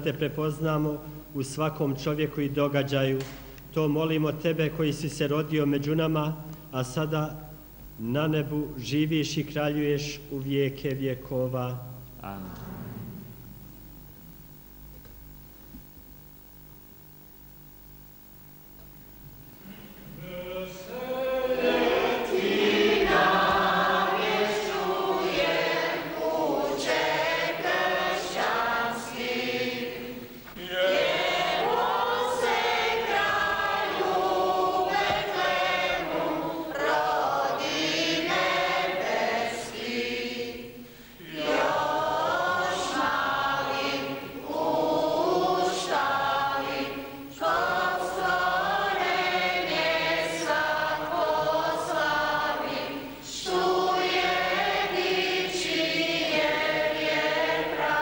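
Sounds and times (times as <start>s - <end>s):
congregation singing a hymn: 0.0s - 13.8s, 19.6s - 58.0s.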